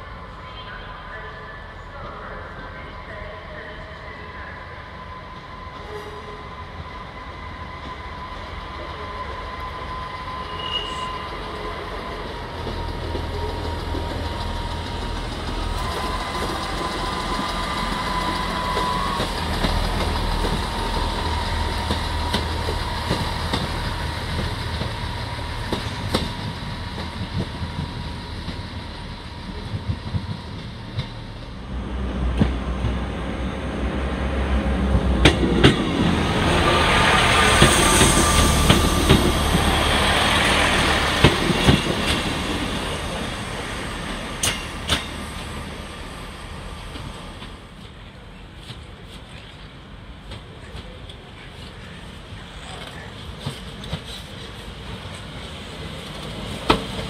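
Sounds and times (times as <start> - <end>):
train engine rumble: 0.0 - 57.0.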